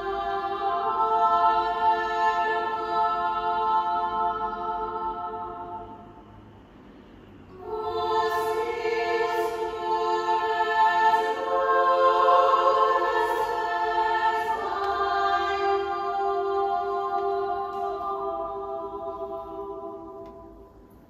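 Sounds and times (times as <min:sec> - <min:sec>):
choir singing a cappella: 0:00.0 - 0:06.5, 0:07.5 - 0:21.0.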